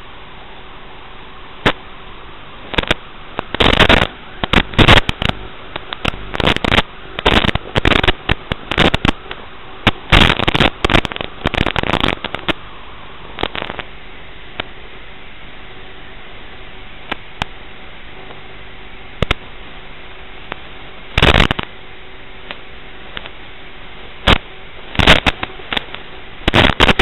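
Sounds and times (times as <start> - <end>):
crackling static bursts: 0.0 - 27.0
steady receiver hiss: 0.0 - 27.0.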